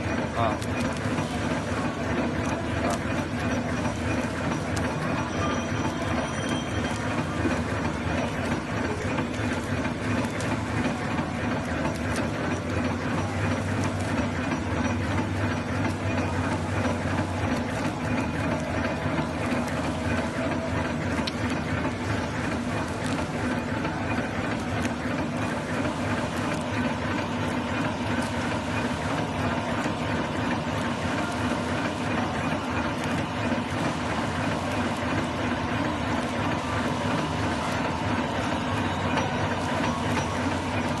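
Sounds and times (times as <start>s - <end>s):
machine hum: 0.0s - 41.0s
rapid mechanical clatter: 0.0s - 41.0s.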